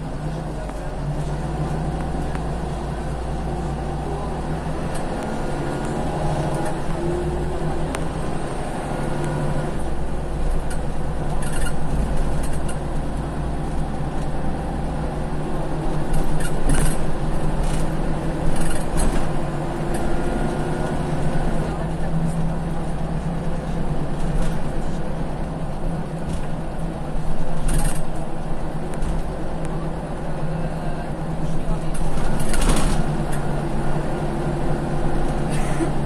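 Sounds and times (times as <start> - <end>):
bus cabin rumbling: 0.0 - 36.0
bus diesel engine humming: 0.0 - 36.0.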